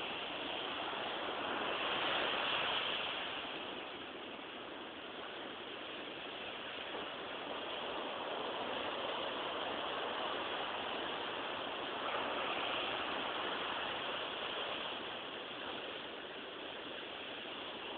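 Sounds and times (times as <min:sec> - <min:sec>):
sea waves breaking on shore: 0:00.0 - 0:17.9.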